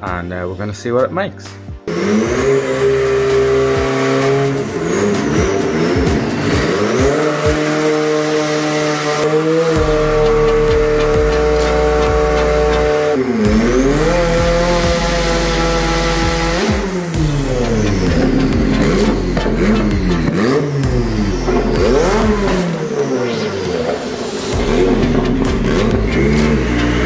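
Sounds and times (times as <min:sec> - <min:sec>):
car engine revving: 0:01.9 - 0:27.0.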